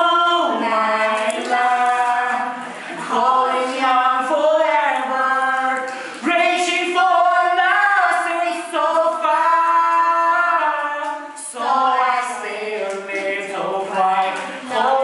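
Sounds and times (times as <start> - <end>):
man and woman singing unaccompanied: 0.0 - 15.0.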